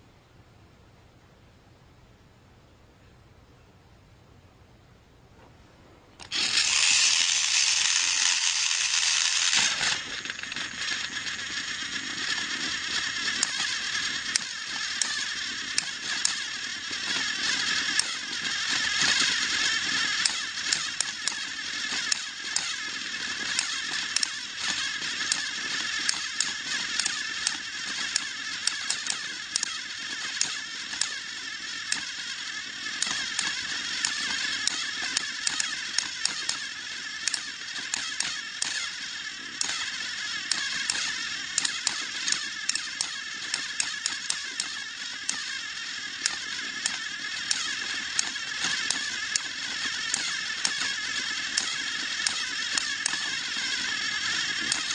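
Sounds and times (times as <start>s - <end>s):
toy train motors whirring: 6.2s - 54.9s
wheels clicking on plastic track: 6.2s - 54.9s.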